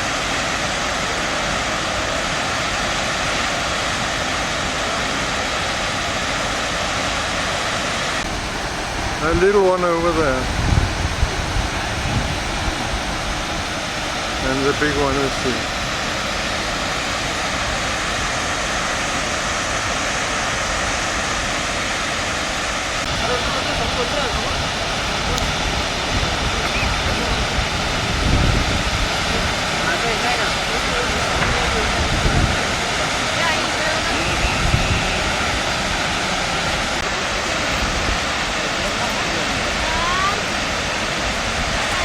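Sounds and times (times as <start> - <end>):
waterfall roaring: 0.0 - 42.0.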